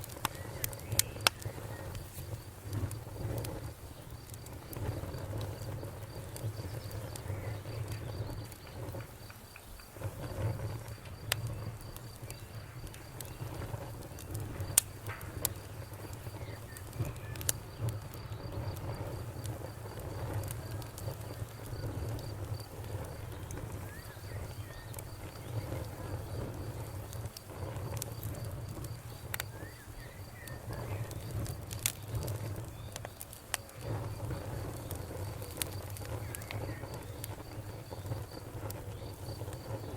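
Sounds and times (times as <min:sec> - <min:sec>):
campfire crackling: 0:00.0 - 0:39.9
cricket chirping: 0:00.2 - 0:39.9.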